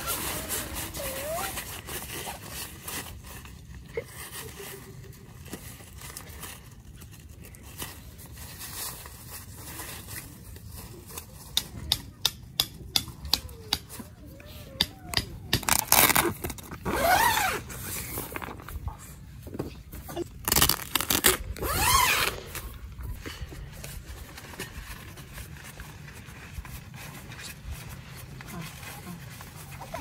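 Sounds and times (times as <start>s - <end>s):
tent fabric rustling and crinkling: 0.0s - 11.6s, 15.7s - 30.0s.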